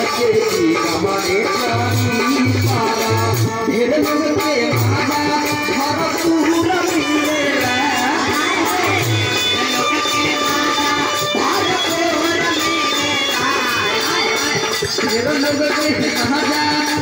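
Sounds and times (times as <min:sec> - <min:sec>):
deep drum beats: 0:00.0 - 0:17.0.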